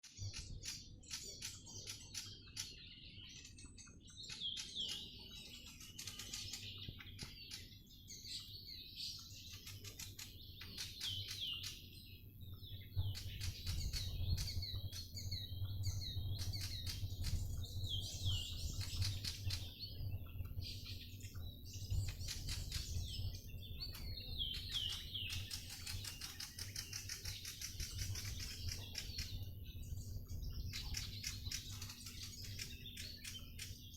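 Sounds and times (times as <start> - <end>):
songbirds chirping and singing: 0.0 - 33.9.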